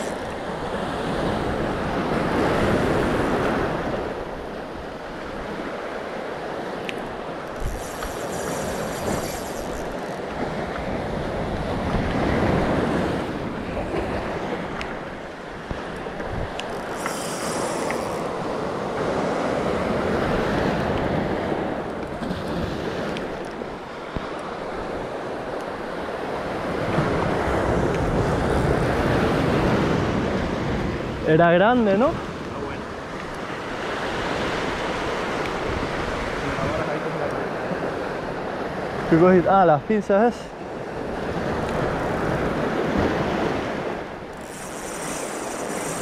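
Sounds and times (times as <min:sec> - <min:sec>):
wind buffeting microphone: 0:00.0 - 0:36.9
waves washing over pebbles: 0:00.0 - 0:38.2.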